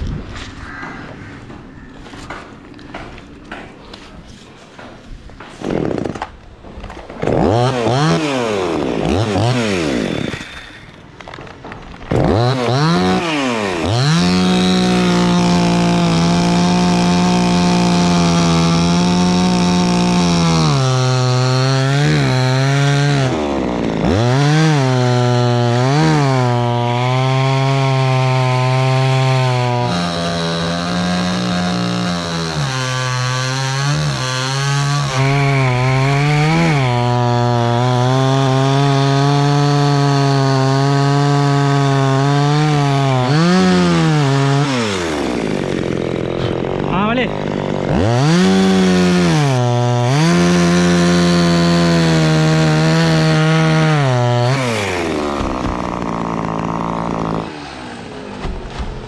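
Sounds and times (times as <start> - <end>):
chainsaw revving and cutting wood: 4.8 - 59.0.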